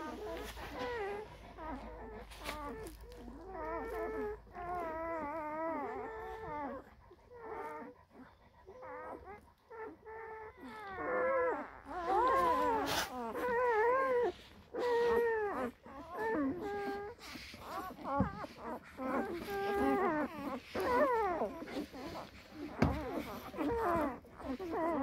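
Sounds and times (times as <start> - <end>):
puppies whimpering: 0.0 - 25.0.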